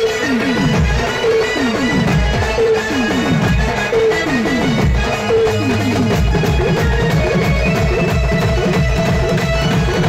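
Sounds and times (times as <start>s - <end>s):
fast rhythmic folk drumming: 0.0s - 10.0s.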